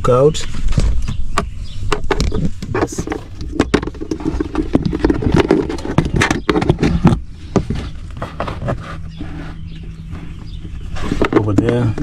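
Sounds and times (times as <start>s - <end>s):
low handling noise: 0.0s - 12.0s.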